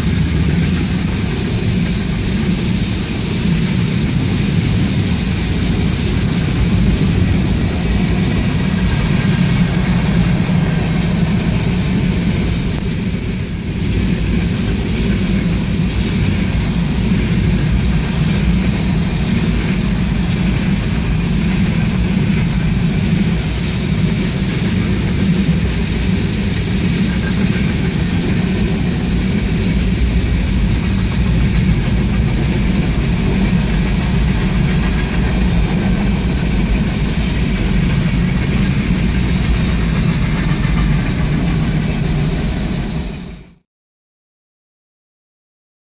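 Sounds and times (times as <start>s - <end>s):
train wheels on rails: 0.0s - 43.6s.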